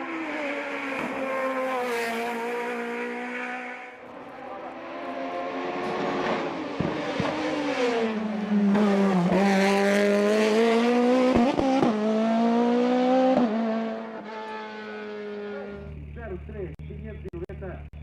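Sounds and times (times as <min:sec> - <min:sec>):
racing car engine at high revs: 0:00.0 - 0:16.2.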